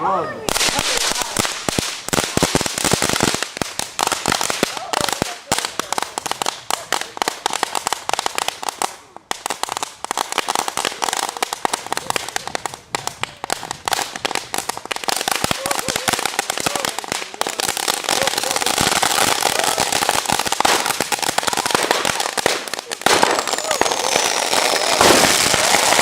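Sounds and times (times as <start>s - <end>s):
firecrackers crackling bangs: 0.5s - 26.0s.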